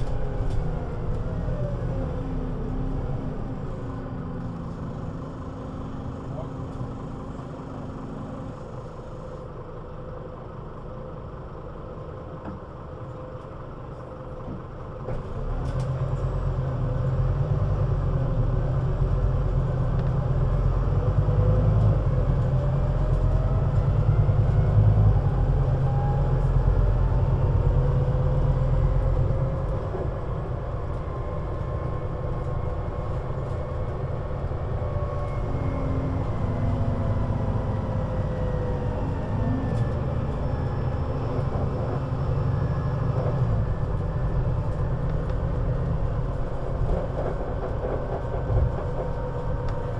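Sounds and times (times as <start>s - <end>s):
bus engine rumbling: 0.0s - 49.9s.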